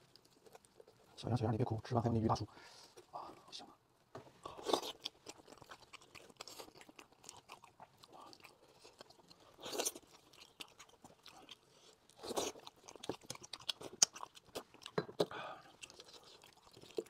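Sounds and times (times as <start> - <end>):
biting and chewing: 0.0 - 1.2, 4.4 - 17.0.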